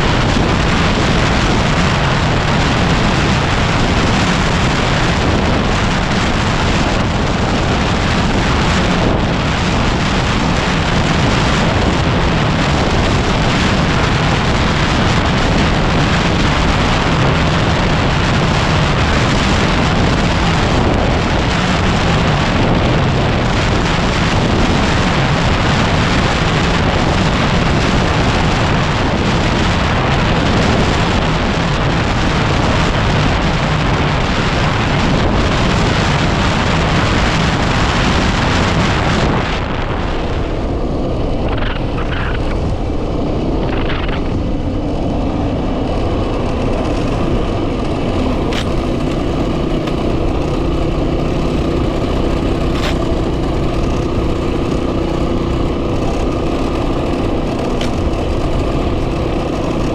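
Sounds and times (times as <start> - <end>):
motorcycle engine hum: 0.0 - 59.9
wind buffeting the microphone: 0.0 - 59.9.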